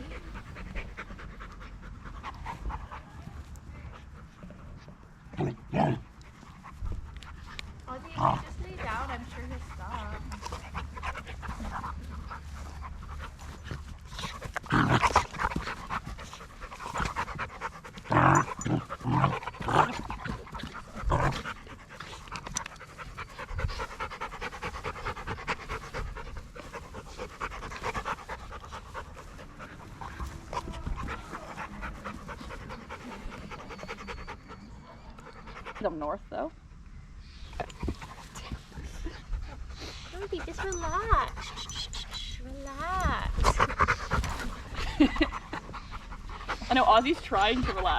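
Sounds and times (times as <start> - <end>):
dogs panting: 0.0 - 47.9.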